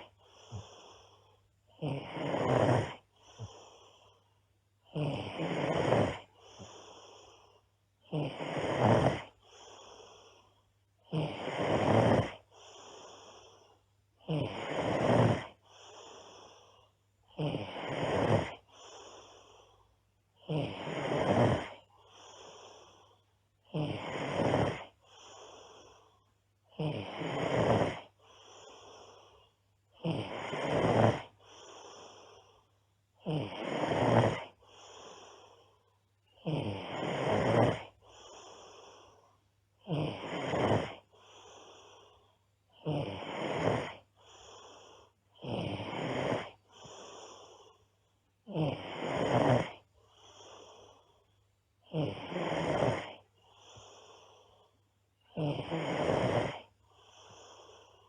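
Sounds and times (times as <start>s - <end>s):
girl snoring loudly: 0.0s - 1.1s, 1.7s - 3.9s, 4.8s - 10.4s, 11.0s - 19.8s, 20.4s - 26.0s, 26.7s - 32.4s, 33.2s - 35.6s, 36.3s - 39.2s, 39.8s - 47.8s, 48.4s - 51.1s, 51.8s - 54.6s, 55.2s - 58.0s.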